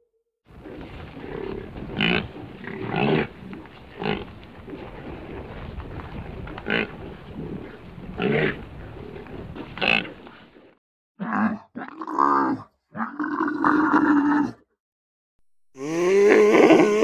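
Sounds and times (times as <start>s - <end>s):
water buffalo grunting: 0.6s - 14.6s, 15.8s - 17.0s.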